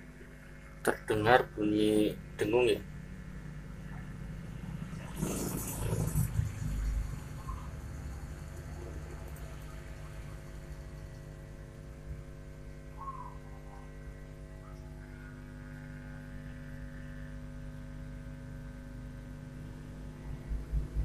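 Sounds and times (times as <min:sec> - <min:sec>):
amplifier mains hum: 0:00.0 - 0:21.0.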